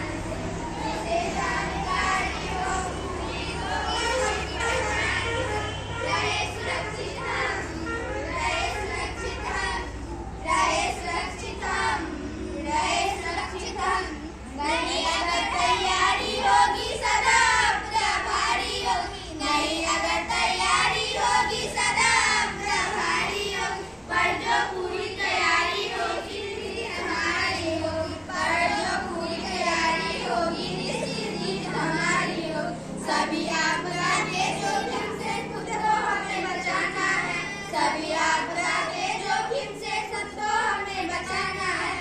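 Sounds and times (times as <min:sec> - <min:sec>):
girls singing together: 0:00.0 - 0:42.0.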